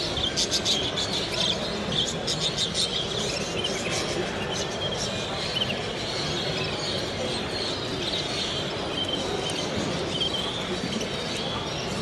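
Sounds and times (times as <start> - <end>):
caged birds chirping: 0.0 - 12.0
murmur of crowd: 0.0 - 12.0.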